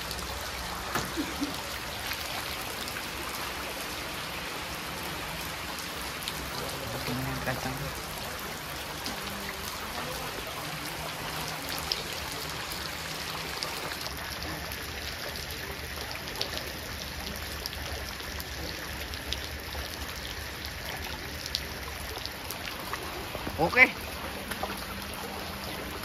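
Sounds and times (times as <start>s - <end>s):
light rain falling: 0.0s - 26.0s.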